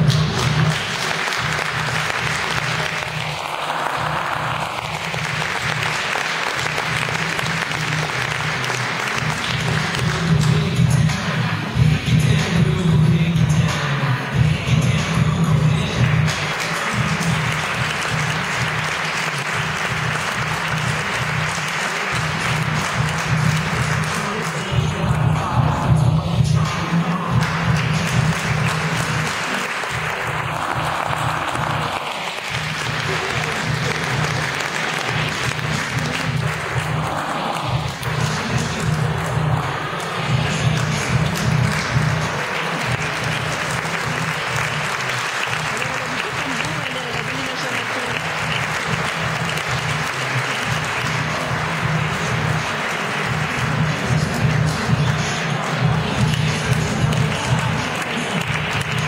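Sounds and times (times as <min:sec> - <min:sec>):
music with bass beat: 0:00.0 - 0:06.0, 0:06.6 - 0:44.9, 0:48.5 - 0:59.0
audience applauding: 0:00.0 - 0:12.8, 0:13.6 - 0:59.0.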